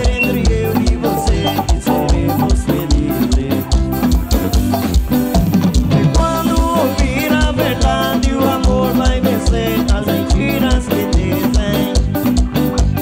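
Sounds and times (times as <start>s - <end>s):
live band music: 0.0s - 13.0s
steady drum beat: 0.0s - 13.0s.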